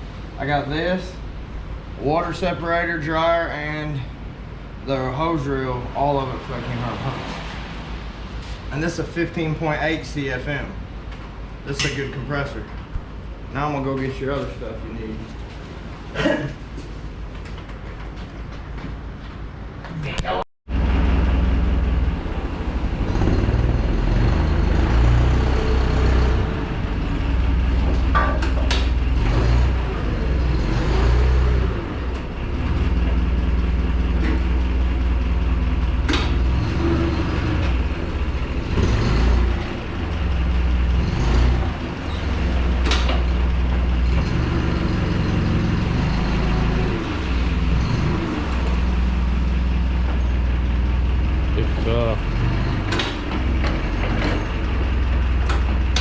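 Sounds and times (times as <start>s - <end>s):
vehicle engine rumbling: 0.0s - 56.0s.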